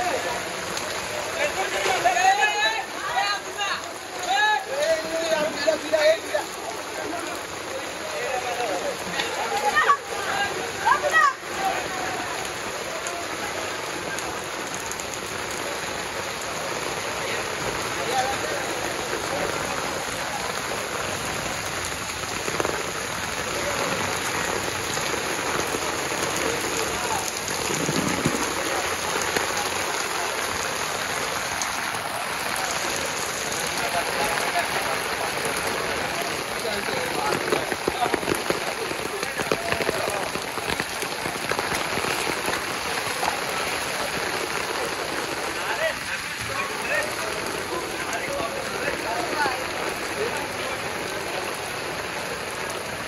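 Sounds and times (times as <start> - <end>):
heavy rain pouring on street: 0.0 - 53.0.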